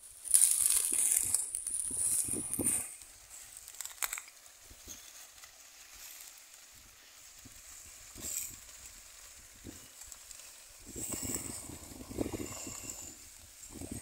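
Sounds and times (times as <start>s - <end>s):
pigs rustling through dry plants: 0.0s - 14.0s.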